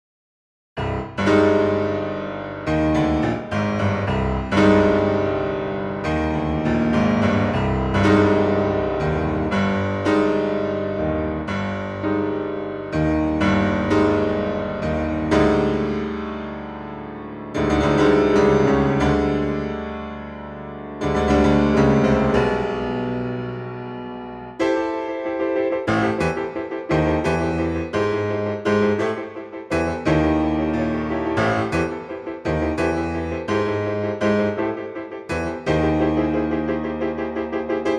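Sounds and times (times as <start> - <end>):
piano chords ringing: 0.8 - 37.9.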